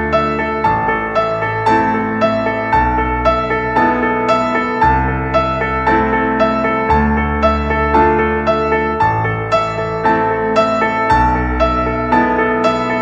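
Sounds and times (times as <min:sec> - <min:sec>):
keyboard music: 0:00.0 - 0:13.0.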